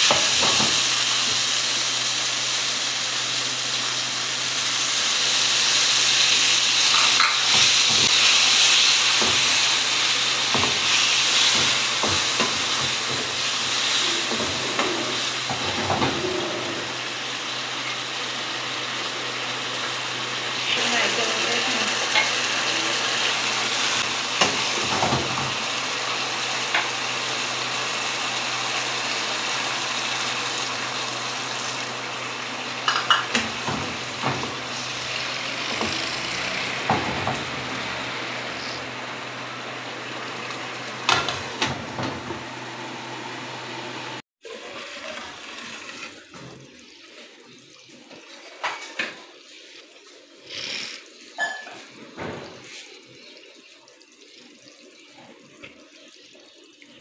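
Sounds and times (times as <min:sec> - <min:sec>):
food sizzling in a wok: 0:00.0 - 0:56.9.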